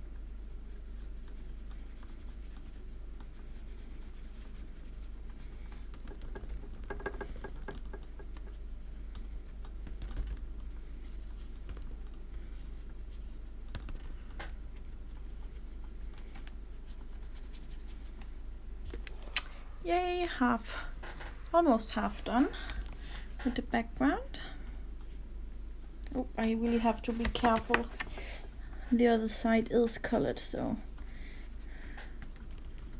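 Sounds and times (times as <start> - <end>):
low electrical hum: 0.0 - 32.9
light taps and scratching: 0.2 - 19.4, 20.7 - 28.5.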